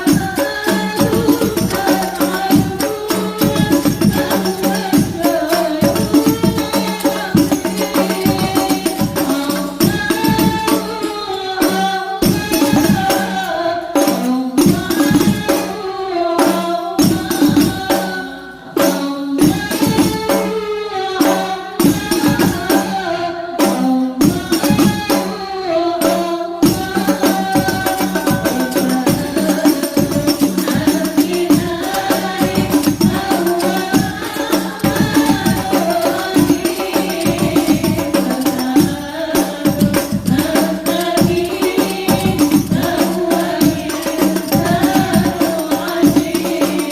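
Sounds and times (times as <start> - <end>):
frame drums beating: 0.0 - 18.2, 18.8 - 20.6, 21.3 - 23.0, 23.7 - 46.9
group singing devotional songs: 0.0 - 46.9.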